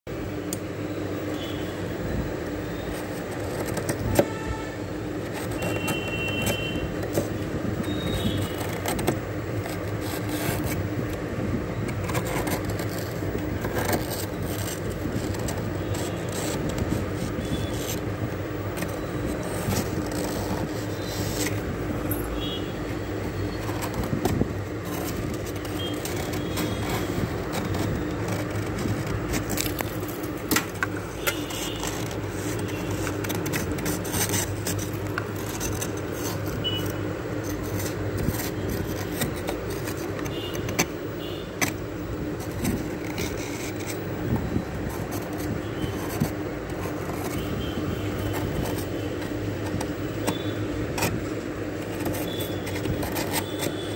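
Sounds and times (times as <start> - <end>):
spoon scraping frost: 2.8 - 53.9.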